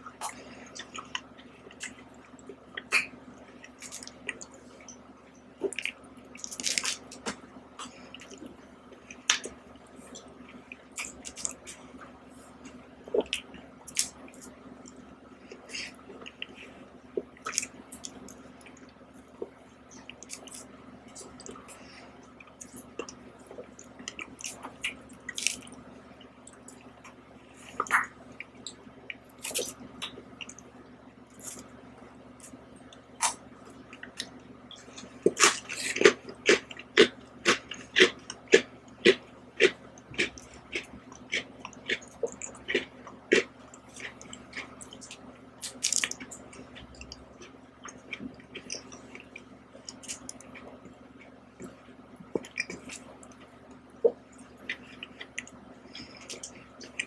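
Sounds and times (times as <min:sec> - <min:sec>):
chewing: 0:00.0 - 0:30.7, 0:31.3 - 0:57.0.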